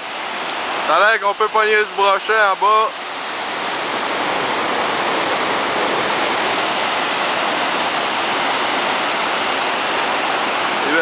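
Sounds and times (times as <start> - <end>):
waterfall and rapids rushing: 0.0 - 11.0.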